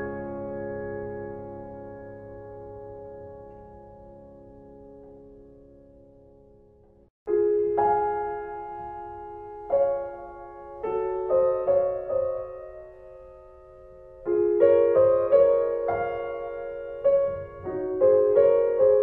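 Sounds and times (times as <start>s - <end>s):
slow piano notes and chords: 0.0s - 19.0s.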